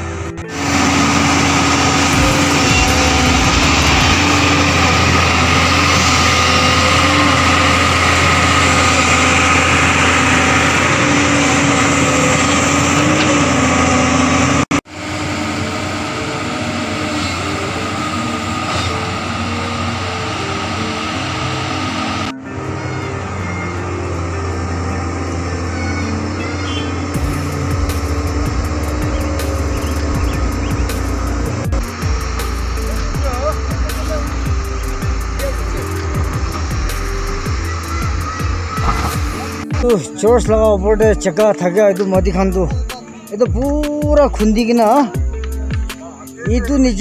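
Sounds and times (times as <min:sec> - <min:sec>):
excavator diesel engine: 0:00.0 - 0:47.0.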